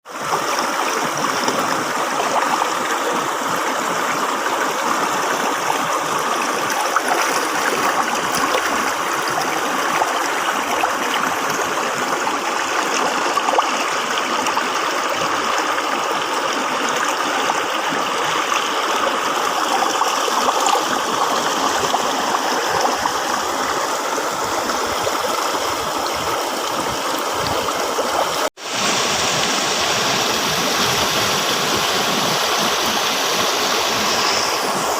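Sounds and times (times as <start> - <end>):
river water rushing and gurgling: 0.1 - 34.9.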